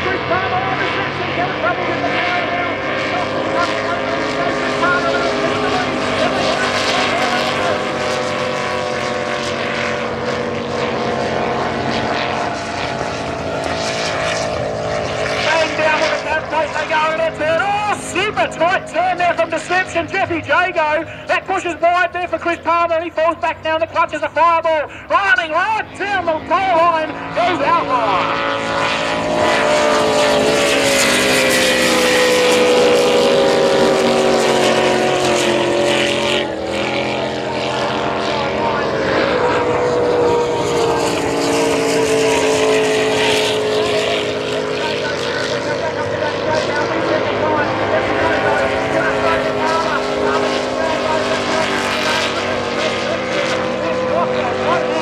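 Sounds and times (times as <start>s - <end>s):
powerboat engines droning: 0.0s - 55.0s.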